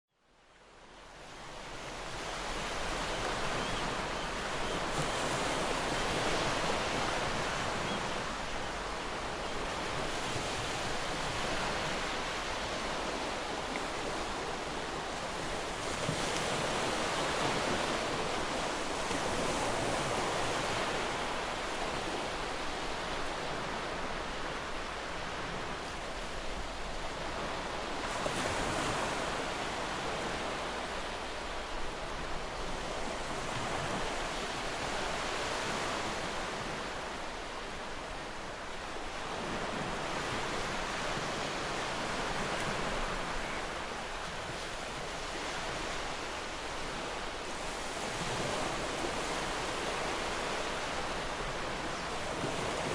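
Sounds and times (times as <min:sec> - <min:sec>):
ocean waves washing ashore: 0:00.5 - 0:52.9.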